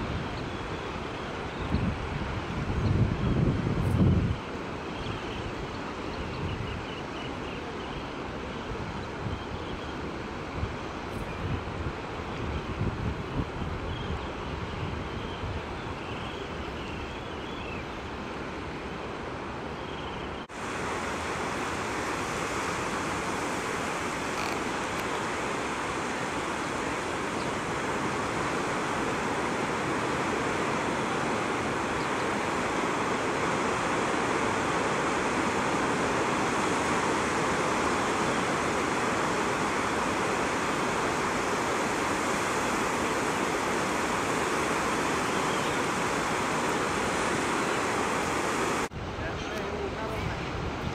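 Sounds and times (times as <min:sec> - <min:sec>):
ocean surf on a beach: 0:00.0 - 0:50.9.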